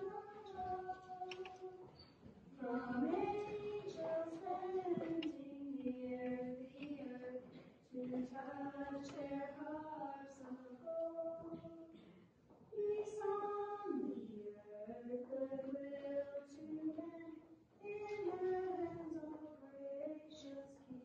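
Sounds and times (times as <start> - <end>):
women singing slow christmas song: 0.0 - 12.0, 12.7 - 21.0.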